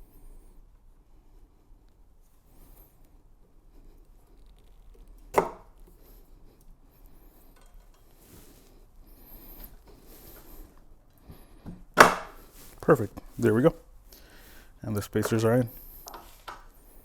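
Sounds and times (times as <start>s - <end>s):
faint scraping and rustling: 1.2s - 11.7s, 12.4s - 17.0s.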